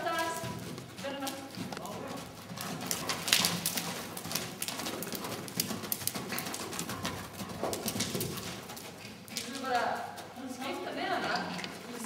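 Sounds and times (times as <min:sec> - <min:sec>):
horse hoofbeats: 0:00.0 - 0:12.0.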